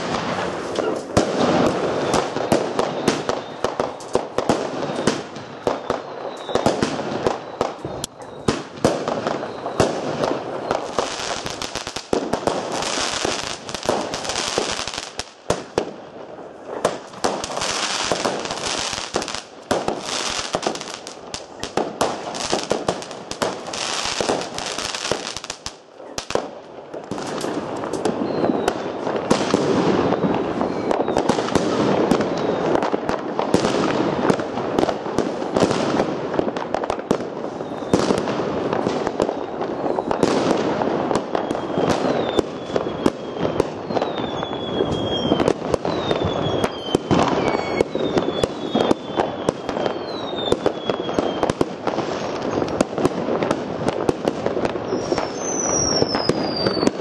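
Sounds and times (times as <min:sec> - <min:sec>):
fireworks bangs and pops: 0:00.0 - 0:57.0
fireworks crackling: 0:00.0 - 0:57.0
high hissing fireworks: 0:00.0 - 0:57.0.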